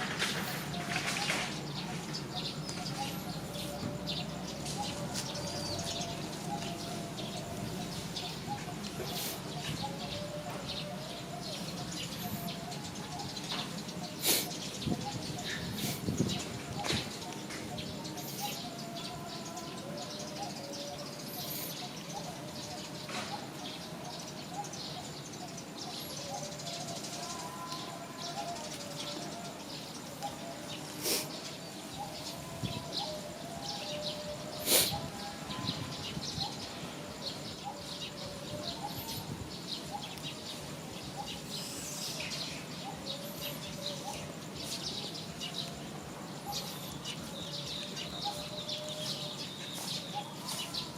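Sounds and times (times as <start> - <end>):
birds chirping: 0.0 - 50.9
birds wavering calls: 0.0 - 50.9.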